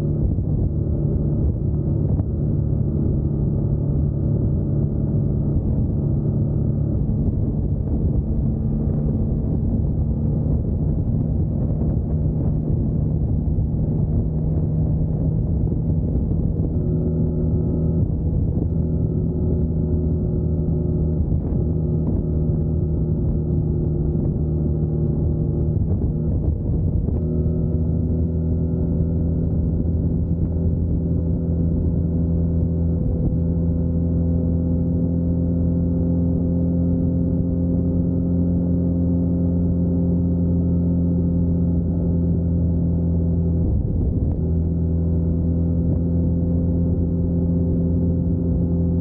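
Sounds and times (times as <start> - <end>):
motorcycle engine cruising: 0.0 - 49.0.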